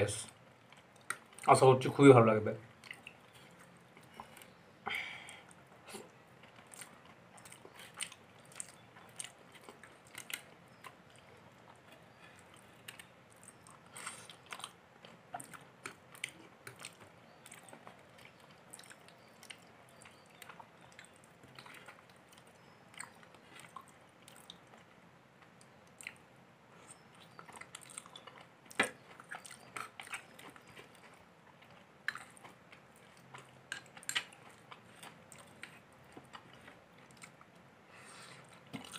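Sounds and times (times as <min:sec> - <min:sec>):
person chewing: 0:00.5 - 0:01.5, 0:02.8 - 0:38.9.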